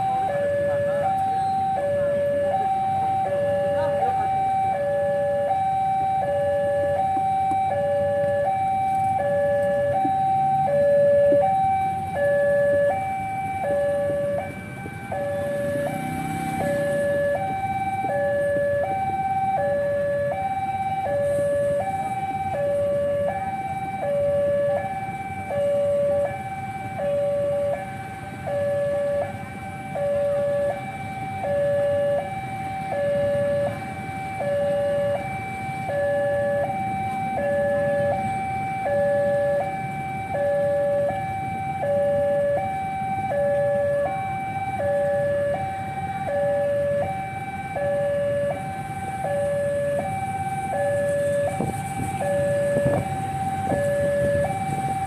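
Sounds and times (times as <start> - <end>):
level crossing two-tone alarm: 0.0 - 55.0
low rumble of traffic: 0.0 - 55.0.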